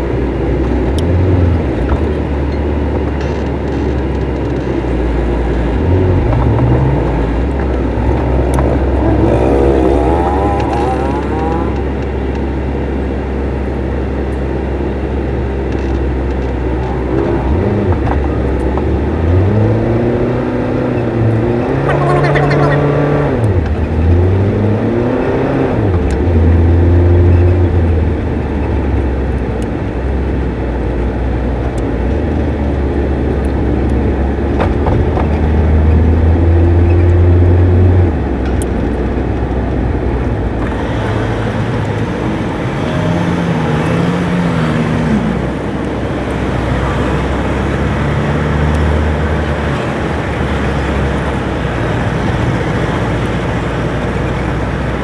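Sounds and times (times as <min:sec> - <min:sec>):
road noise: 0:00.0 - 0:55.0
truck engine droning: 0:00.0 - 0:55.0.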